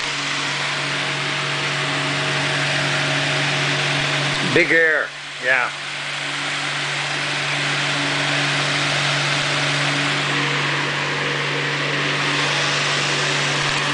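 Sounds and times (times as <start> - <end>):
electric fan motor hum: 0.0 - 13.9
rush of air from fan blades: 0.0 - 13.9.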